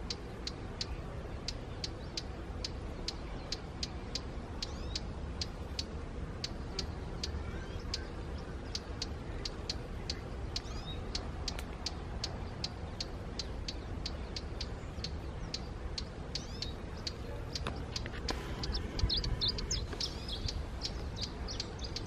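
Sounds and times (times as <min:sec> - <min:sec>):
low steady rumble: 0:00.0 - 0:22.0
small birds chirping: 0:00.0 - 0:22.0
quick bird twittering: 0:00.1 - 0:22.0.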